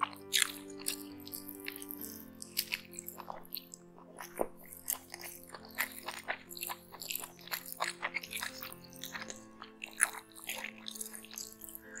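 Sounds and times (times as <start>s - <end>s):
person chewing and lip-smacking: 0.0s - 12.0s
soft background music: 0.0s - 12.0s.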